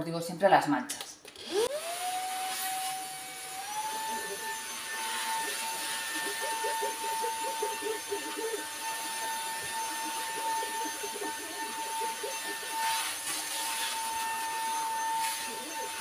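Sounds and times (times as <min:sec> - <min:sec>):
handheld vacuum cleaner whine: 0:01.3 - 0:16.0.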